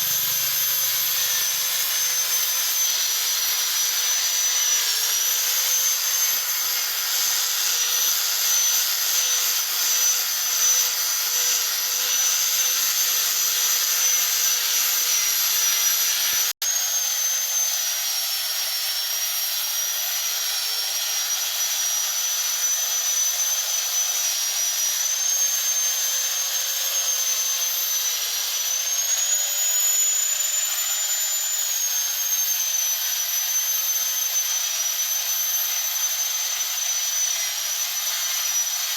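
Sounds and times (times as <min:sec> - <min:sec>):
electric grinder whine: 0:00.0 - 0:38.9.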